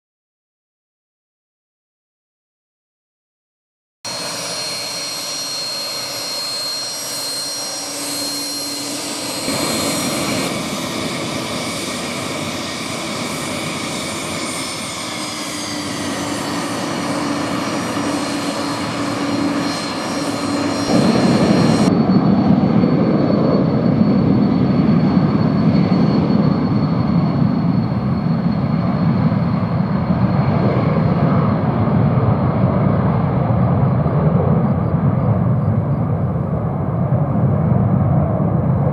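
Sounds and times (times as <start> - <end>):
jet engines whining: 4.1 - 38.9.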